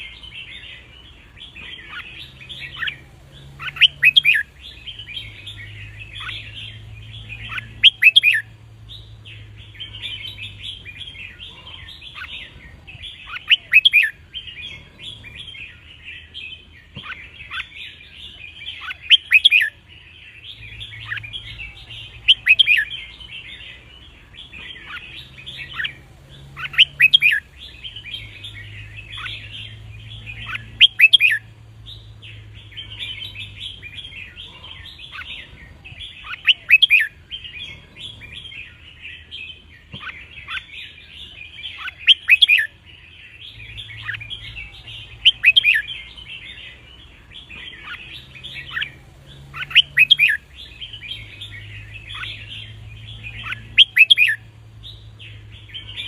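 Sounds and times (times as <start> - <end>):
bird whistling song: 0.0 - 56.0
birds chirping and chattering: 0.0 - 56.0.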